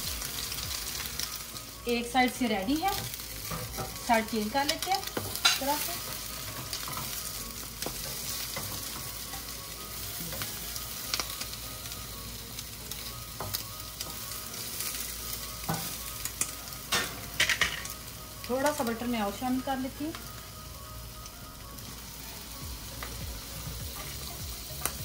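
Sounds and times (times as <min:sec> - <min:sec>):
bread sizzling in a pan: 0:00.0 - 0:25.0.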